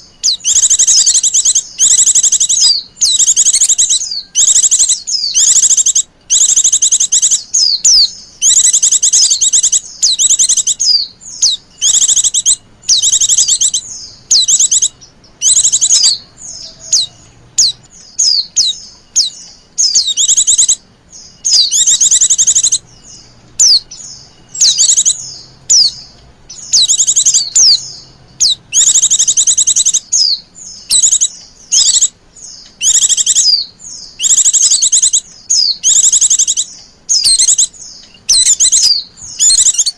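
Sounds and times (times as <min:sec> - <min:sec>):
bird chittering trills: 0:00.0 - 0:39.9.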